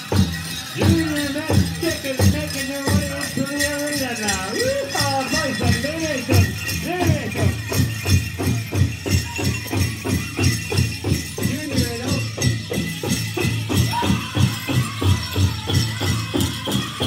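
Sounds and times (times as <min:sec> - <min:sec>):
big drum steady beat: 0:00.0 - 0:17.0
leg bells jingling: 0:00.0 - 0:17.0
voices singing: 0:00.0 - 0:17.0.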